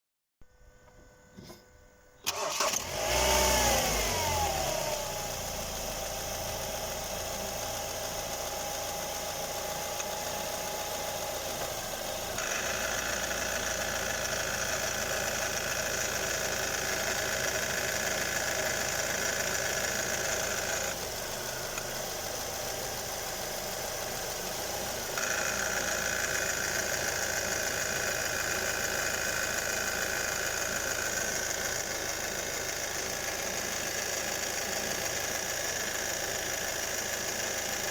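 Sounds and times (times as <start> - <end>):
car engine starting and idling: 2.2 - 37.9.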